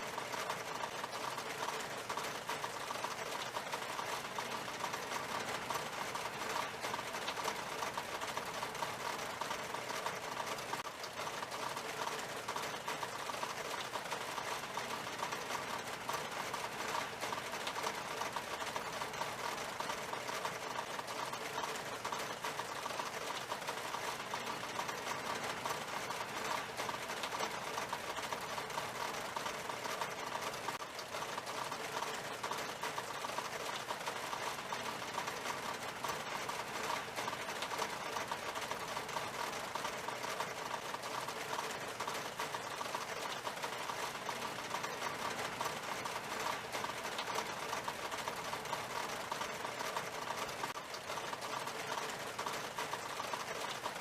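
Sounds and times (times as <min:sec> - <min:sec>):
rain on window glass: 0:00.0 - 0:54.0.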